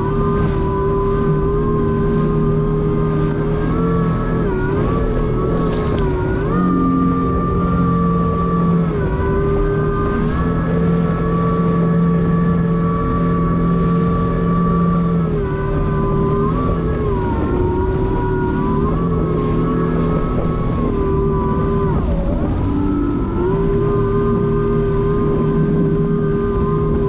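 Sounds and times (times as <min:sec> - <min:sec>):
jet ski engine running: 0:00.0 - 0:27.0.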